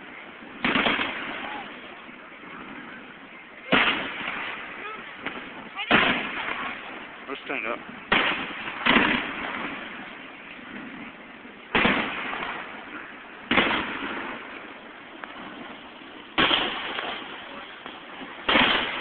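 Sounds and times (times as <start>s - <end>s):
fireworks booming: 0.0s - 19.0s
rumbling echo: 0.0s - 19.0s.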